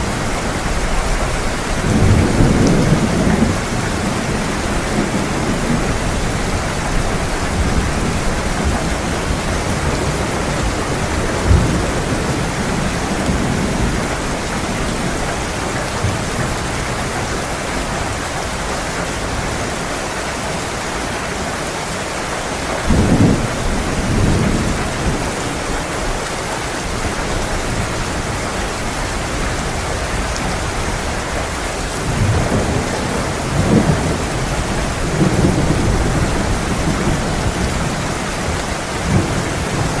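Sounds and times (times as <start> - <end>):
thunder rumbling: 0.0 - 18.7, 22.7 - 40.0
heavy rain falling: 0.0 - 40.0.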